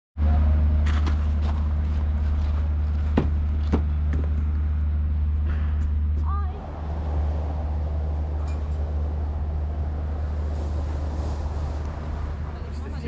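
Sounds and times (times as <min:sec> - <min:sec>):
vehicle engine drone: 0:00.2 - 0:13.0.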